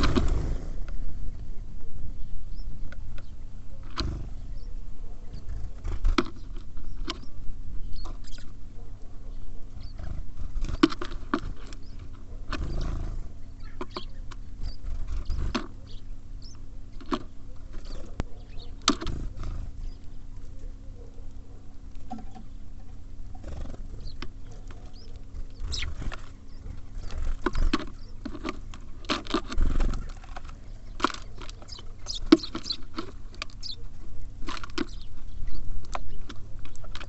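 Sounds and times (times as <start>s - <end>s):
birds pecking and hopping on wood: 0.0s - 37.0s.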